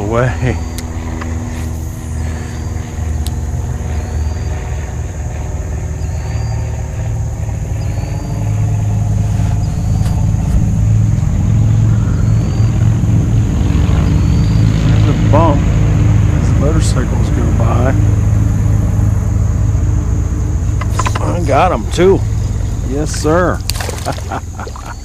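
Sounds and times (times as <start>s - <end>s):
motorcycles passing: 0.0s - 25.0s.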